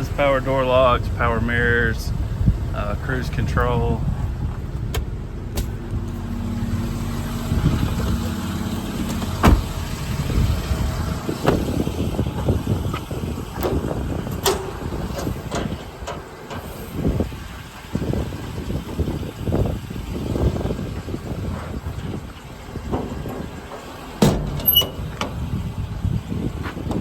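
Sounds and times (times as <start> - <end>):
truck idling hum: 0.0 - 27.0.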